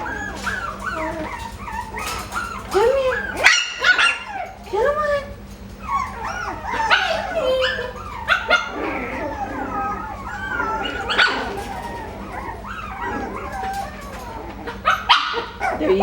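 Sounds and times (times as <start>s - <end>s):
dog whining and whimpering: 0.0s - 16.0s
dog yipping: 0.0s - 16.0s.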